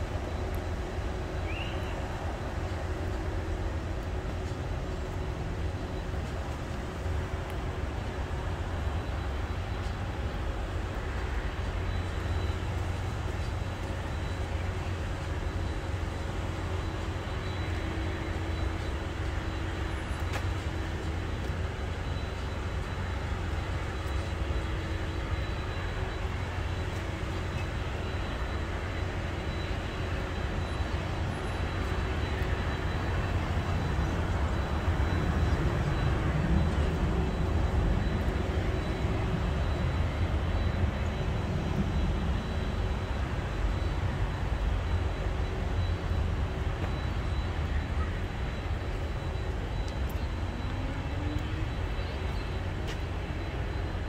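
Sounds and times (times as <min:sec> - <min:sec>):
distant jet engines rumbling: 0:00.0 - 0:54.0.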